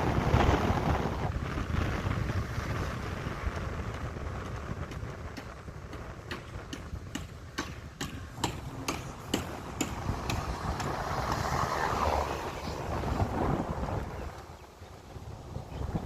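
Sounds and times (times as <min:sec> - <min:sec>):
vehicle rumble: 0:00.0 - 0:16.0
wind noise: 0:00.0 - 0:16.0.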